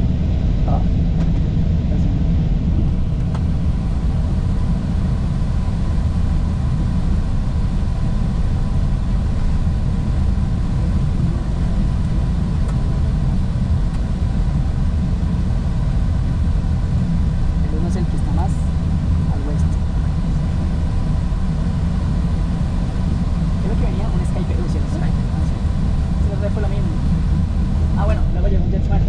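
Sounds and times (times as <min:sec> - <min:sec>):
airliner rumbling on runway: 0:00.0 - 0:29.0.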